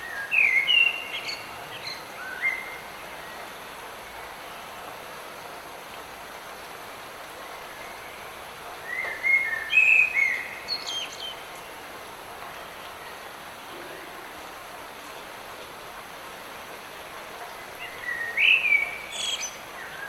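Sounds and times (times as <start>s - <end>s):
light rain hiss: 0.0s - 20.0s.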